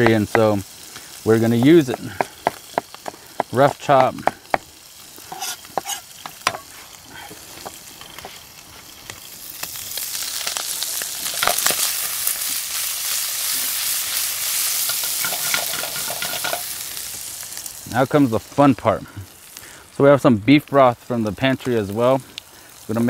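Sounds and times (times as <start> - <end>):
frying pan sizzling: 0.0 - 23.0.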